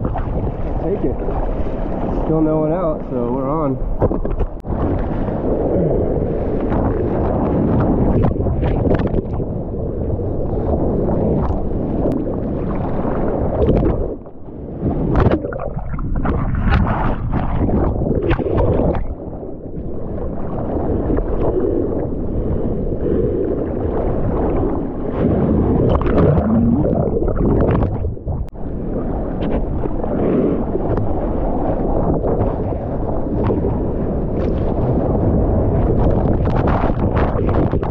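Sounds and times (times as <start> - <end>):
seawater rushing and splashing: 0.0 - 37.9
wind buffeting microphone: 0.0 - 37.9.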